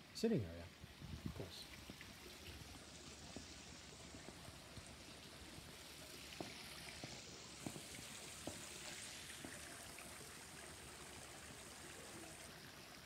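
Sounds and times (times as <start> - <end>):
waterfall splashing into pool: 0.8 - 13.0.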